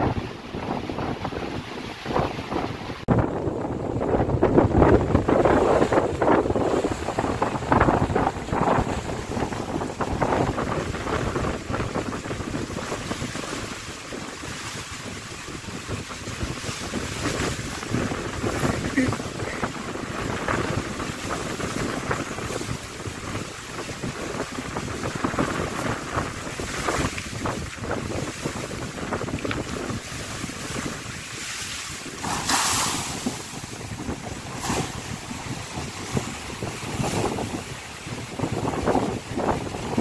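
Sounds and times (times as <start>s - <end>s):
waves slapping against seawall: 0.0s - 40.0s
wind buffeting microphone: 0.0s - 40.0s.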